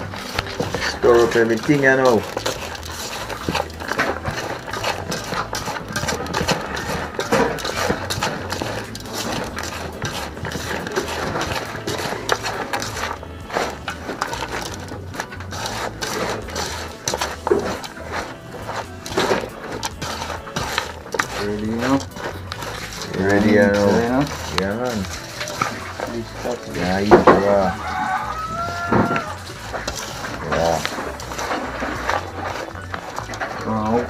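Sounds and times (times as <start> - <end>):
clicks and knocks against metal bowl: 0.0 - 34.0
raw vegetables rustling and crunching: 0.0 - 34.0.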